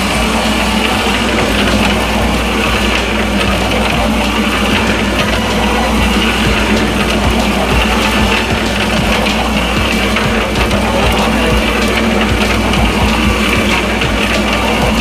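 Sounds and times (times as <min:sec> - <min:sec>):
dry feed tumbling in drum: 0:00.0 - 0:15.0
mixer mechanical hum: 0:00.0 - 0:15.0.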